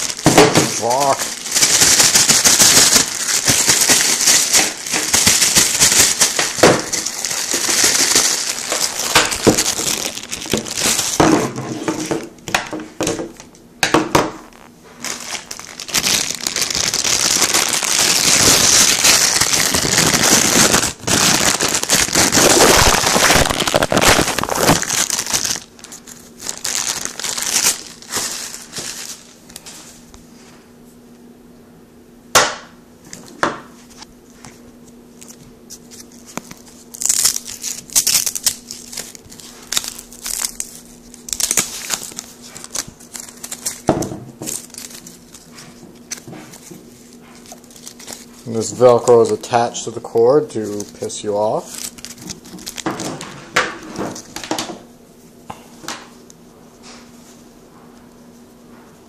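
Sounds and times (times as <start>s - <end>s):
plastic packaging crinkling: 0.0s - 12.8s, 14.4s - 30.0s, 35.1s - 54.8s.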